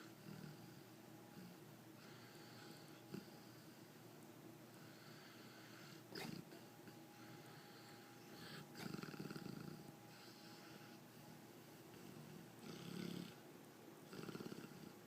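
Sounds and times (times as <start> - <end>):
dog snoring: 0.0 - 4.0, 4.7 - 13.4, 14.0 - 15.0.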